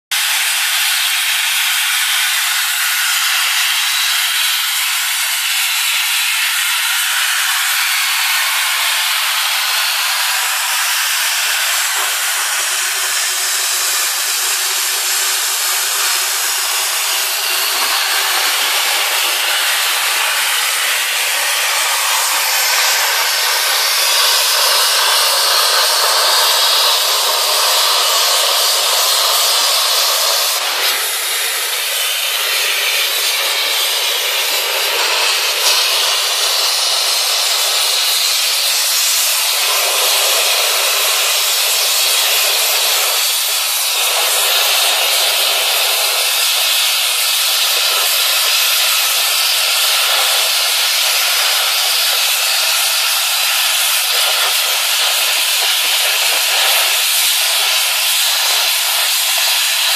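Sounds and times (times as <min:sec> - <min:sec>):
cutting torch hissing: 0:00.1 - 0:59.9.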